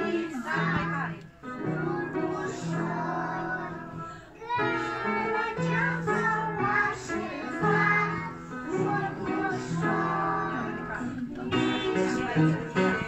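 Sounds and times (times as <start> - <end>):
children singing: 0.0 - 13.0
guitar accompaniment: 0.0 - 13.0.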